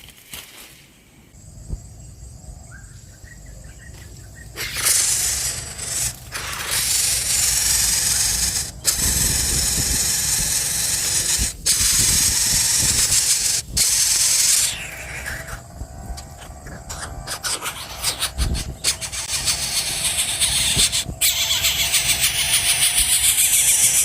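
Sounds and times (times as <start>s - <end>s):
chick hissing: 4.5s - 24.0s.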